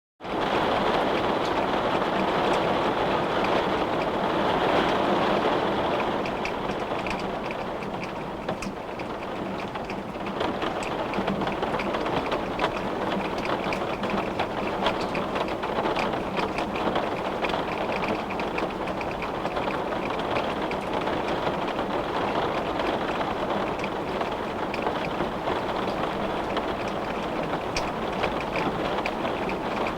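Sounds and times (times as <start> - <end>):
rain on a windowpane: 0.2 - 29.9.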